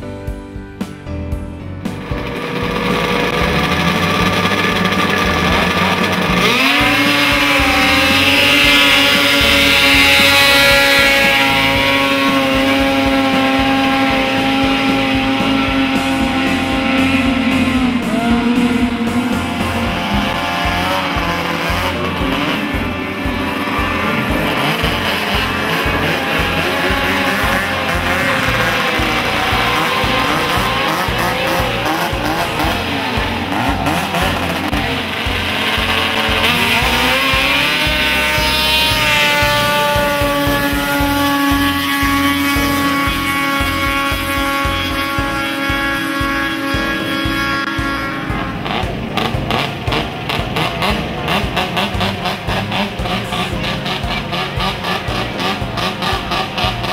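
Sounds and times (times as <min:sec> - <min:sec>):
background music: 0:00.0 - 0:56.9
snowmobile engines whining: 0:01.8 - 0:56.9.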